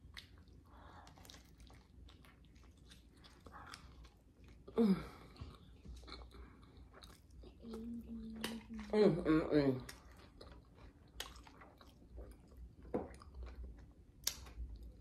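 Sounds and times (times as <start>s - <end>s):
person chewing: 0.0s - 8.9s, 9.9s - 15.0s.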